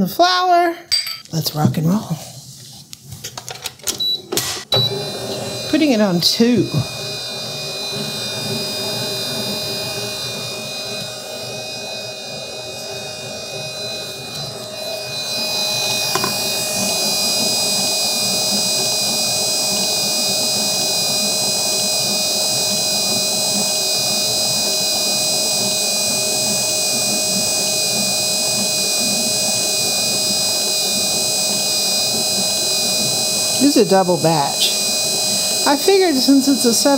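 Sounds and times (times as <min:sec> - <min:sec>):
stand mixer motor whining: 0:04.0 - 0:36.9.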